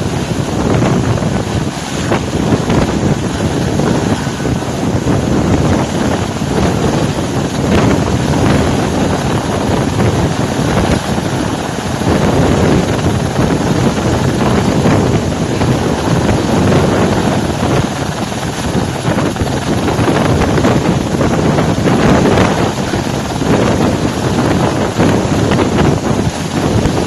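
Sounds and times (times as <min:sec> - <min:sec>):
helicopter rotor and engine: 0:00.0 - 0:27.0
wind buffeting microphone: 0:00.0 - 0:27.0.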